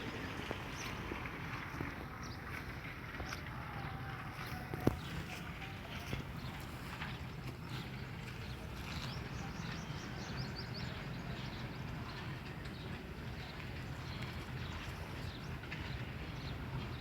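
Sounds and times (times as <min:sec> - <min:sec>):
flour mill machinery running: 0:00.0 - 0:17.0.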